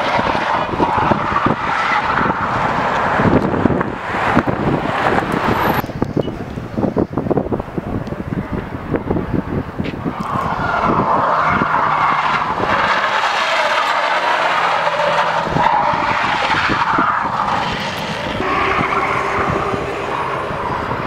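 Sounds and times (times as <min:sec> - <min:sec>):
car tyres squealing on asphalt: 0:00.0 - 0:05.8, 0:09.8 - 0:21.0
car engine running hard: 0:00.0 - 0:21.0.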